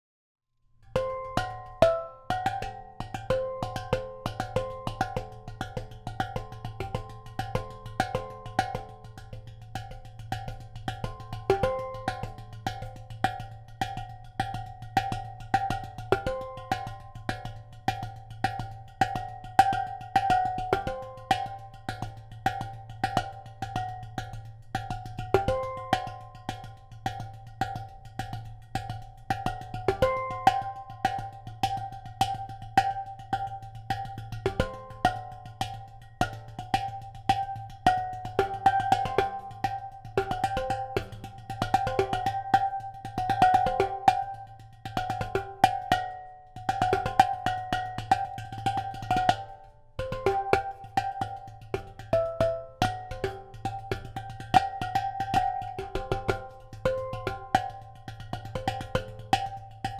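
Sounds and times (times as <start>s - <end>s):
steel pan notes played by hand: 0.8s - 59.9s.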